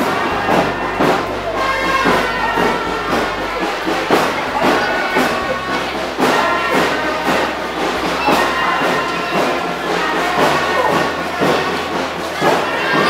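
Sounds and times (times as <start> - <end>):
held wind instrument notes: 0.0 - 13.0
steady drumbeat: 0.0 - 13.0.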